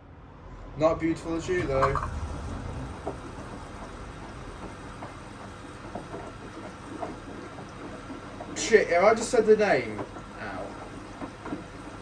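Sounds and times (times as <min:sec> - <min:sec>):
washing machine running: 0:01.5 - 0:12.0.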